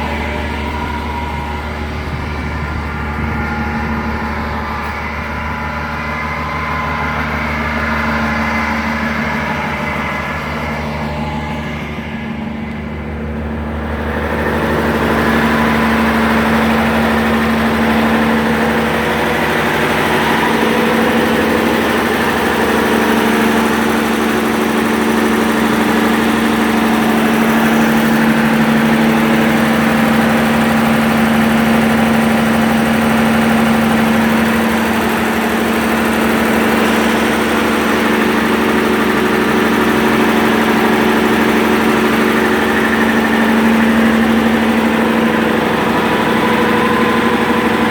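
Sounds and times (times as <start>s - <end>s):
gas engine running: 0.0s - 47.9s.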